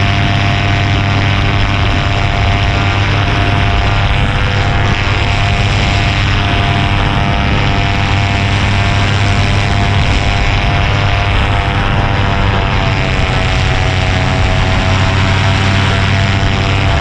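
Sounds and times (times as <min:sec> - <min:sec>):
paramotor engine drone: 0:00.0 - 0:17.0.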